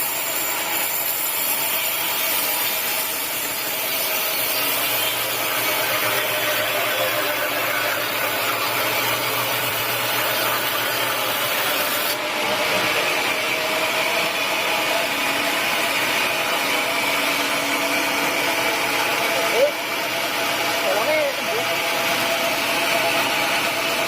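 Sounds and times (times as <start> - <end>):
saw cutting wood: 0.0 - 24.0.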